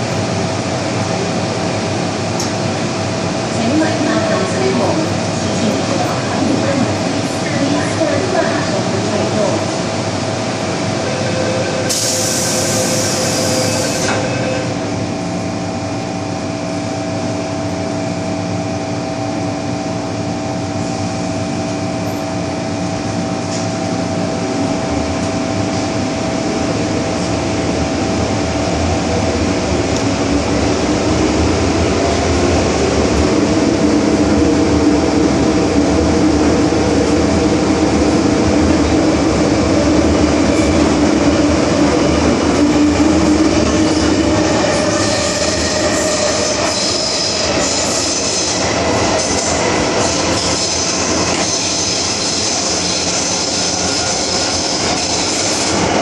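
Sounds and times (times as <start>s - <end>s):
subway train running hum: 0.0s - 56.0s.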